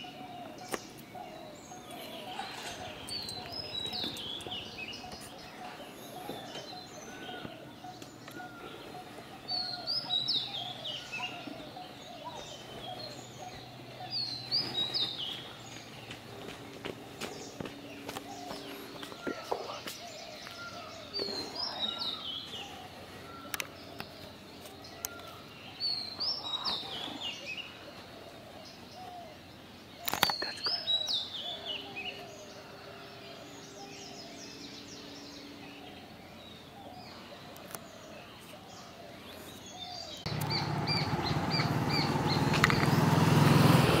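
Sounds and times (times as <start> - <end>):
bird calls with falling notes: 0.0 - 44.0.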